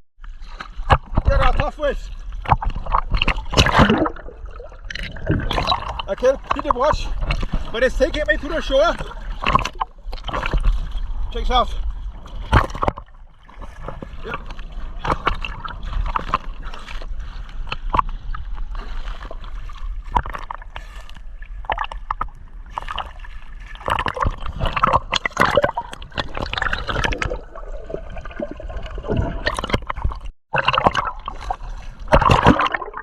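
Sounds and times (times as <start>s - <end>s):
sea water splashing and sloshing: 0.2s - 33.0s.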